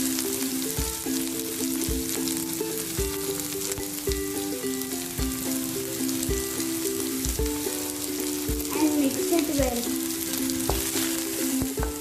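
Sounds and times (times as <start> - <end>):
background music with low beat: 0.0 - 8.8, 9.6 - 12.0
onion sizzling in hot oil: 0.0 - 12.0.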